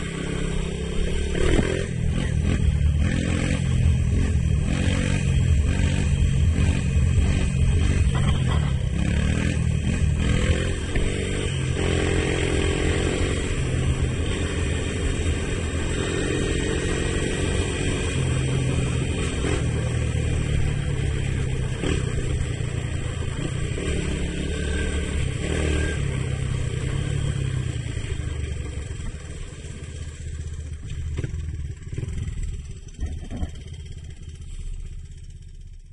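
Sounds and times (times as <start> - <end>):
engine revving: 0.0 - 28.8.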